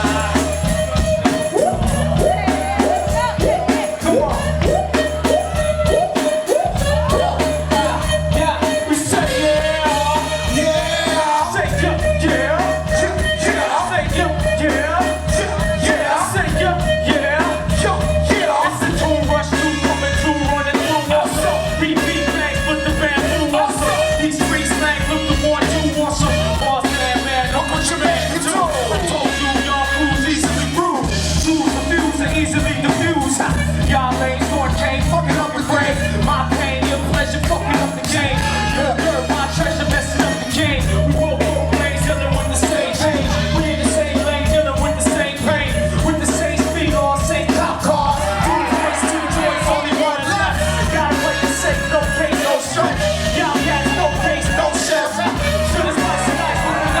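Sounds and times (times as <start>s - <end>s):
dance music with heavy bass: 0.0s - 57.0s.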